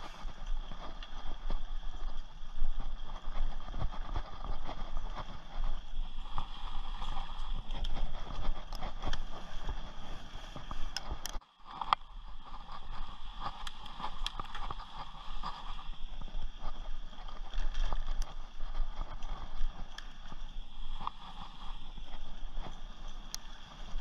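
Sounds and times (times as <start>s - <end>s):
bike tyres rumbling on dirt: 0.0s - 24.0s.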